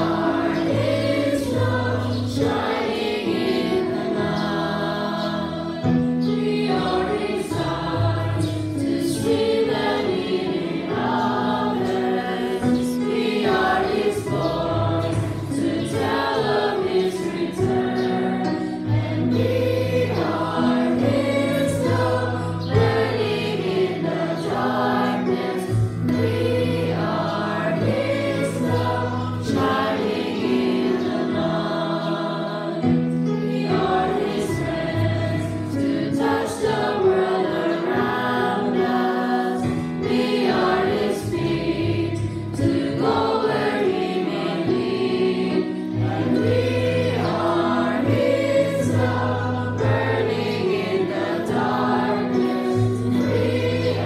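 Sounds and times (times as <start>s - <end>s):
congregation singing: 0.0s - 54.0s.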